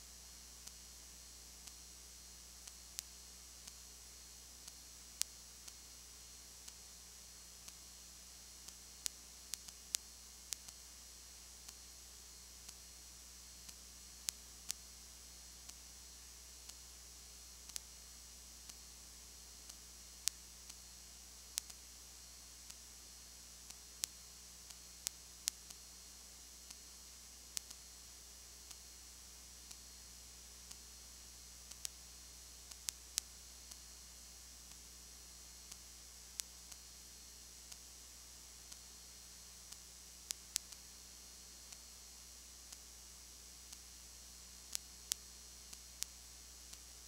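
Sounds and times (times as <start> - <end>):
faint steady hiss: 0.0 - 47.0.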